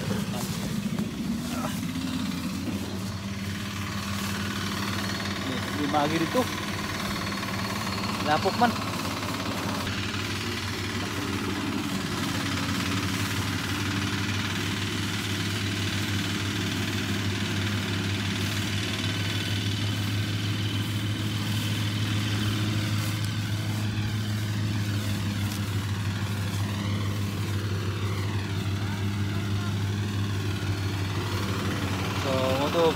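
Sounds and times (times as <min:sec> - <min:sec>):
thresher engine droning: 0:00.0 - 0:32.9.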